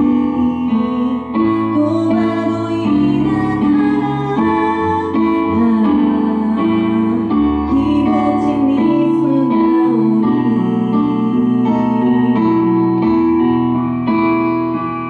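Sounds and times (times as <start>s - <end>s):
woman singing into microphone: 0.0s - 13.5s
instrumental backing music: 0.0s - 15.0s.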